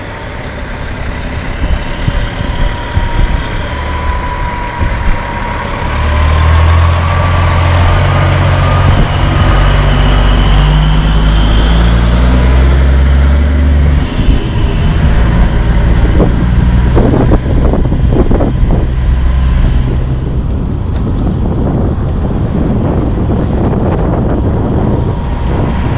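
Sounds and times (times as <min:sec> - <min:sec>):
diesel truck accelerating and shifting: 0:00.0 - 0:25.9
trailer wheels rushing past: 0:00.0 - 0:25.9.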